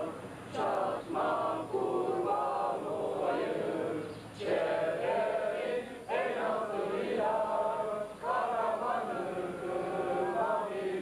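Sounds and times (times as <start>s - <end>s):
crowd singing in unison: 0.0s - 11.0s.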